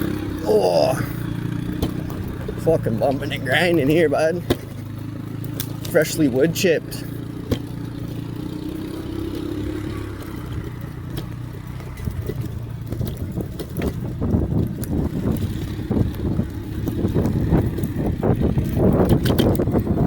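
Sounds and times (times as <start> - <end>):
bike rattling and knocking: 0.0 - 20.0.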